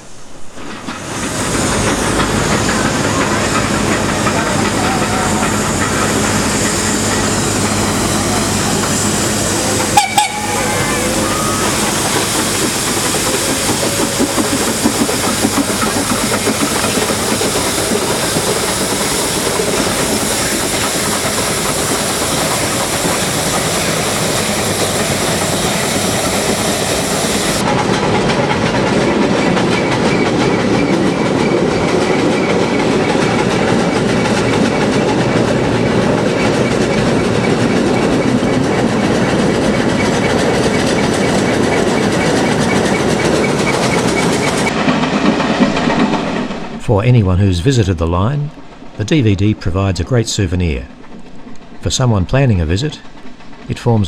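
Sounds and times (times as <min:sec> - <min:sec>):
train rail clatter: 0:00.0 - 0:46.9, 0:50.7 - 0:54.0
steam locomotive hissing: 0:00.0 - 0:54.0.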